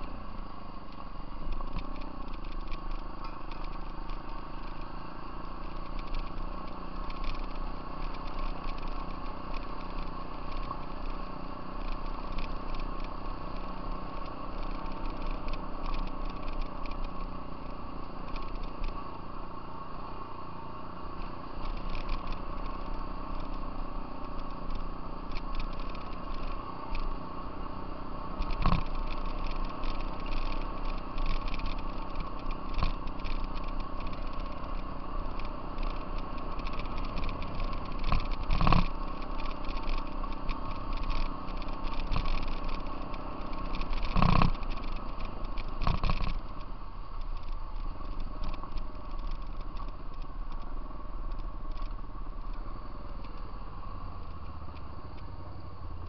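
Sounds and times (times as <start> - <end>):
light rattling and clatter: 0.0 - 56.0
off-road vehicle engine running: 0.0 - 56.0.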